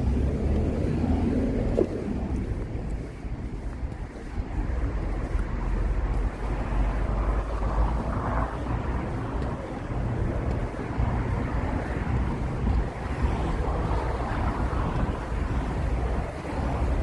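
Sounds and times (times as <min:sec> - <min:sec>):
traffic noise: 0:00.0 - 0:17.0
wind buffeting microphone: 0:00.0 - 0:17.0.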